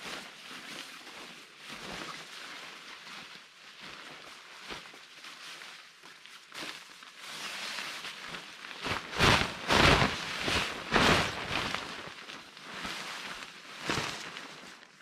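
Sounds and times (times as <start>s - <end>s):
tarp fabric rustling: 0.0s - 15.0s.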